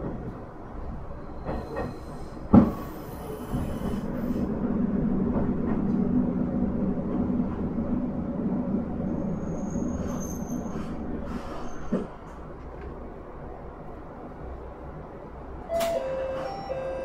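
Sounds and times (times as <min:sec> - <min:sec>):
railcar engine humming: 0:00.0 - 0:17.0.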